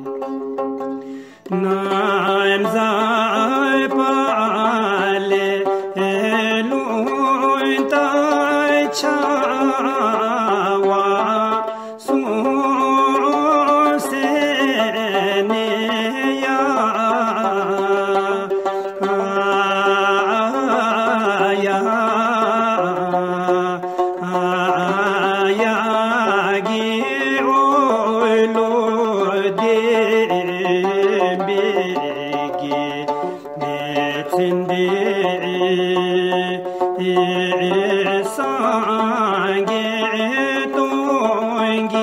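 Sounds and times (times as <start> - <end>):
musical accompaniment: 0.0 - 42.0
person singing long notes: 0.0 - 42.0.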